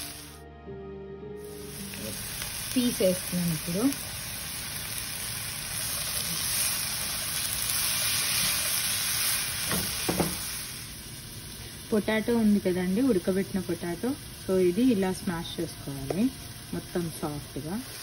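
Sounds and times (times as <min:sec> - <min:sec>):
peas sizzling in hot oil: 0:00.0 - 0:00.4, 0:01.4 - 0:18.0.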